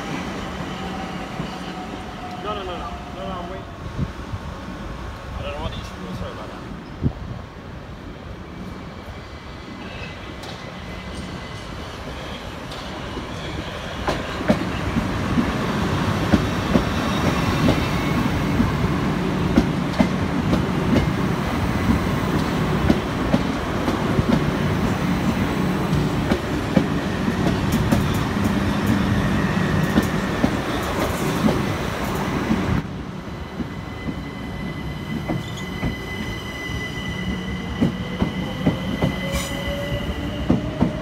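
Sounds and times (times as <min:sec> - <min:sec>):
electric train running past: 0:07.8 - 0:41.0.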